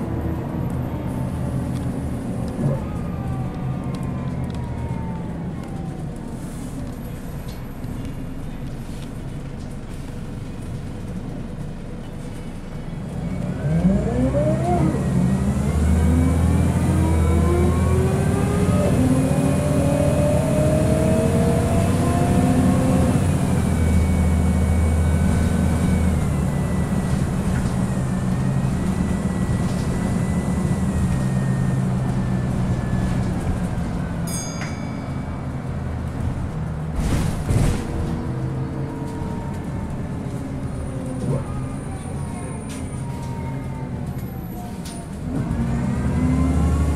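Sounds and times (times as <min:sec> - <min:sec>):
bus engine: 0:00.0 - 0:46.9.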